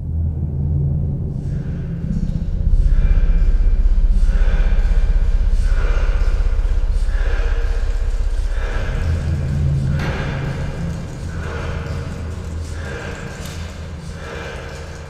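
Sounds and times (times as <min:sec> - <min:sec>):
steady low rumble: 0:00.0 - 0:15.0
person breathing heavily: 0:01.3 - 0:15.0.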